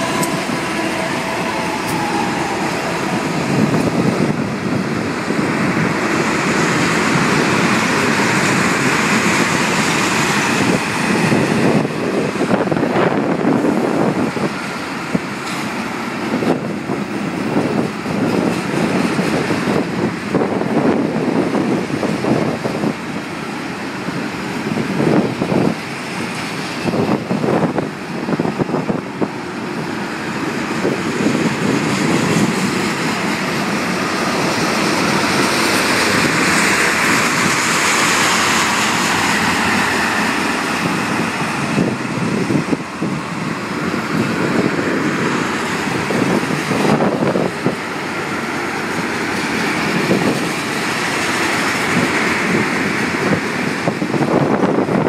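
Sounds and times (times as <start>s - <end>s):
freight train wheels on rails: 0.0s - 55.0s
train knocks: 0.0s - 55.0s.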